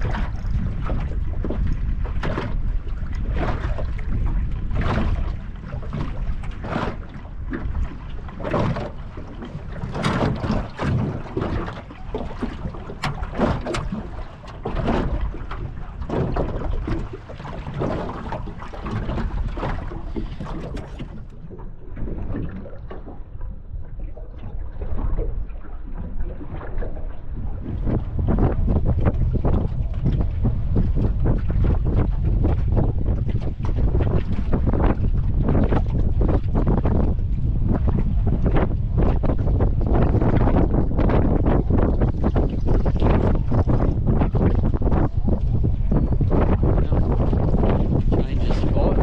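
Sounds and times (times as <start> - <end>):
water slapping against boat: 0.0 - 49.0
wind buffeting microphone: 0.0 - 49.0.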